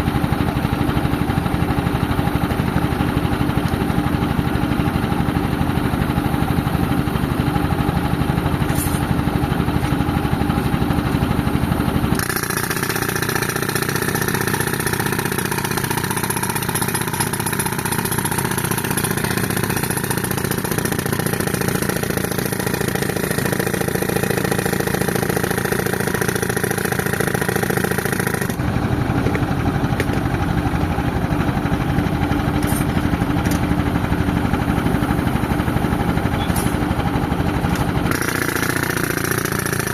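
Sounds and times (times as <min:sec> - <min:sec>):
tractor engine rumble: 0:00.0 - 0:12.2, 0:13.8 - 0:38.1.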